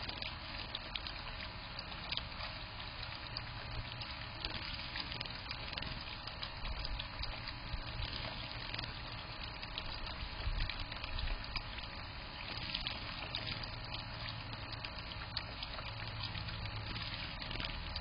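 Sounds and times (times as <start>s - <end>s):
fountain trickling into basin: 0.0s - 18.0s
small splashes of birds bathing: 0.0s - 18.0s.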